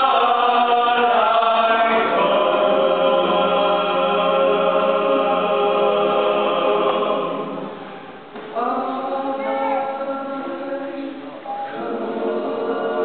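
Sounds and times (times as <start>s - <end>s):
men singing in harmony: 0.0s - 7.9s, 8.6s - 13.0s.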